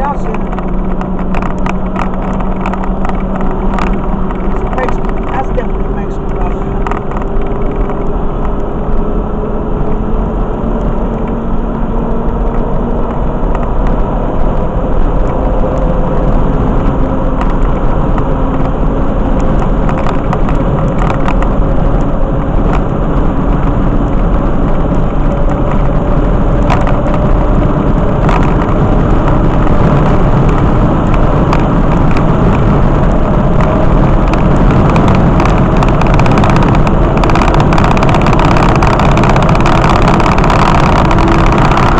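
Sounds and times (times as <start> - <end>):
road noise: 0.0 - 41.9
vehicle engine accelerating: 0.0 - 41.9.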